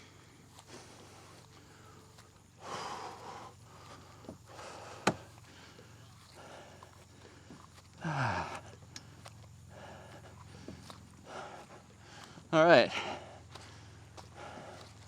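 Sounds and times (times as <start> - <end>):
man breathing hard: 0.0 - 15.0.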